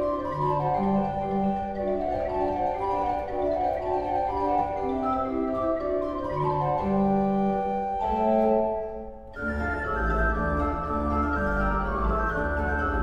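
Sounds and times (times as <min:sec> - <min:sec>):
pipe organ playing: 0:00.0 - 0:13.0.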